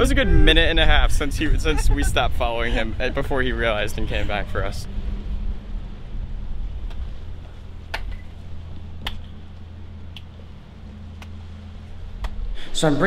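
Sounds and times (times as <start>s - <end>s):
low steady rumble with hum: 0.0s - 13.0s.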